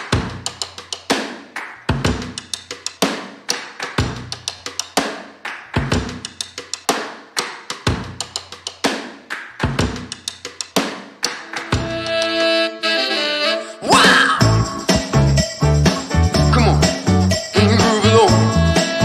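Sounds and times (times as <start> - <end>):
music with drum beat: 0.0 - 12.7, 14.0 - 19.0.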